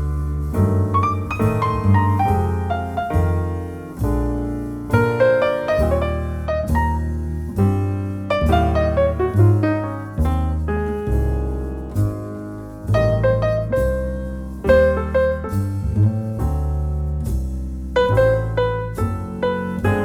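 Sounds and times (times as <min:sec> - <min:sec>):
jazz piano ballad: 0:00.0 - 0:20.0.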